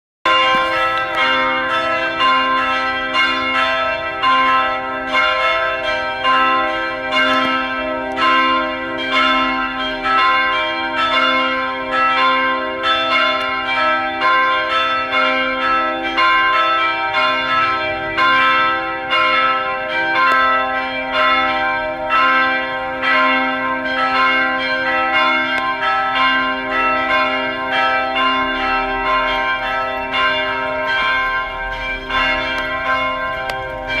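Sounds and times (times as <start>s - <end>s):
church bells ringing: 0.3s - 34.0s.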